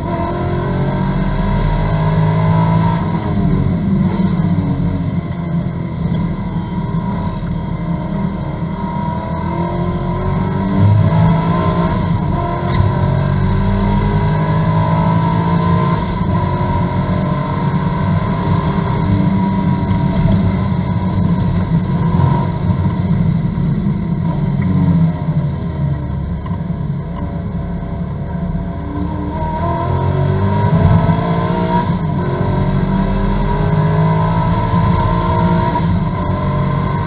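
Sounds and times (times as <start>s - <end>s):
race car engine accelerating: 0.0s - 37.0s.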